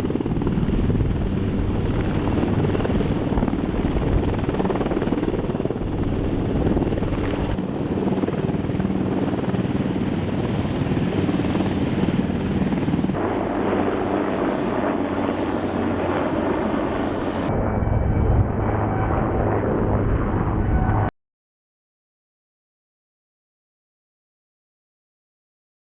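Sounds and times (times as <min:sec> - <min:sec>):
helicopter rotor and turbine: 0:00.0 - 0:21.1
low hum: 0:00.0 - 0:21.1.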